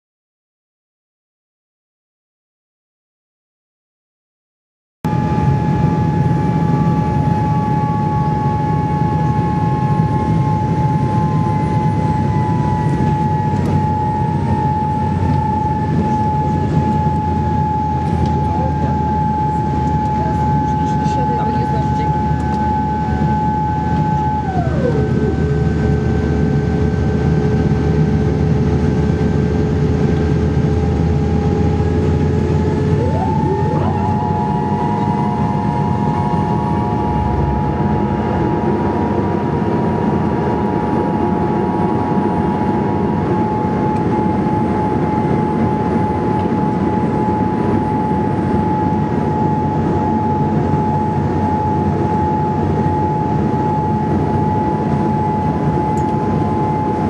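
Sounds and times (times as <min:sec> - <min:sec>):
aircraft engine and airflow rumble: 0:05.0 - 0:57.0
high whine: 0:05.1 - 0:57.0.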